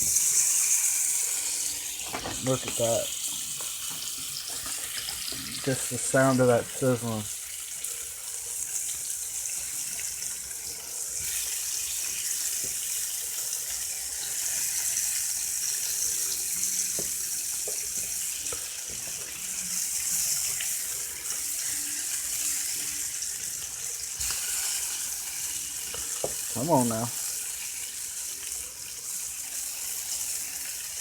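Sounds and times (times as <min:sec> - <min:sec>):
fish frying in butter: 0:00.0 - 0:31.0.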